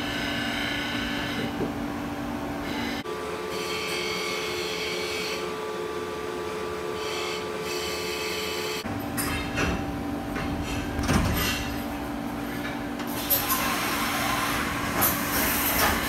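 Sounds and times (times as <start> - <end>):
machine hum with held tones: 0.0 - 15.8.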